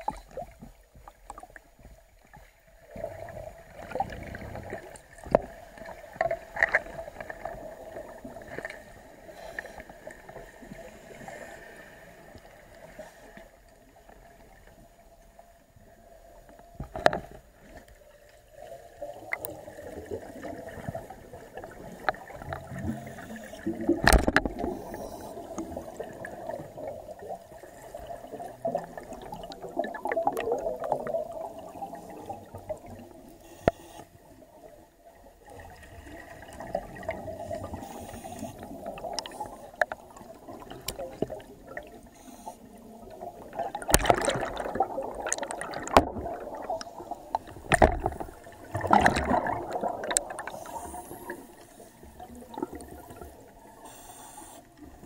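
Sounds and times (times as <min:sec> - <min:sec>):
underwater bubbles gurgling: 0:00.0 - 0:55.0.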